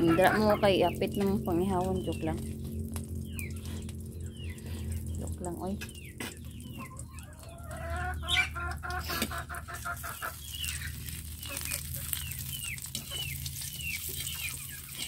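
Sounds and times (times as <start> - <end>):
chickens clucking: 0.0 - 2.7, 3.3 - 15.0.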